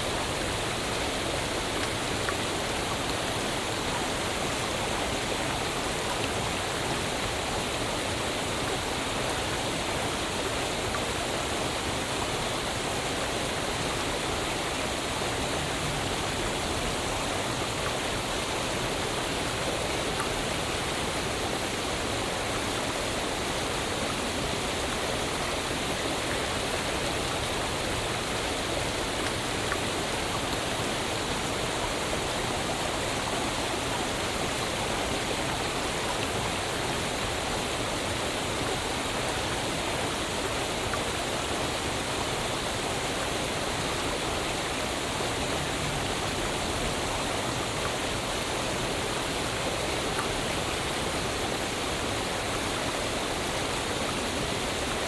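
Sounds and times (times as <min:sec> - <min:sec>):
waterfall: 0:00.0 - 0:55.0.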